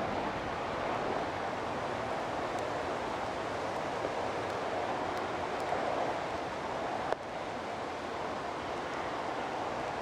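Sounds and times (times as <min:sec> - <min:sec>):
steady rushing outdoor noise: 0:00.0 - 0:10.0.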